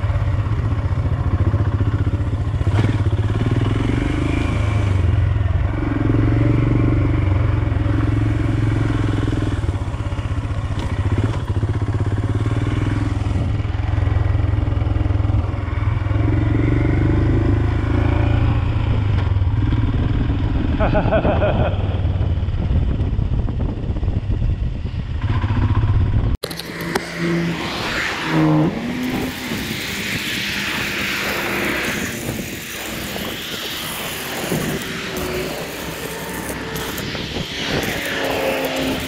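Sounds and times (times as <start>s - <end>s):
motorcycle engine running: 0.0s - 27.9s, 28.7s - 39.0s.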